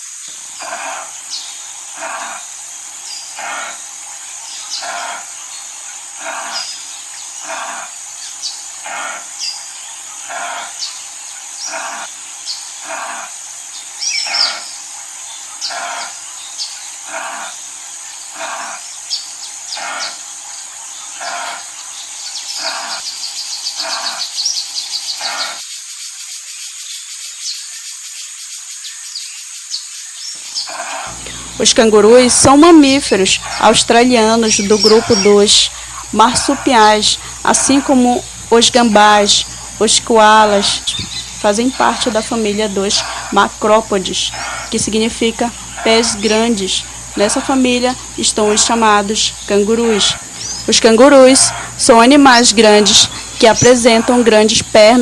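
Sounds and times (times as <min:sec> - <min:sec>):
insect chorus: 0:00.0 - 0:55.0
bird chirps: 0:00.3 - 0:55.0.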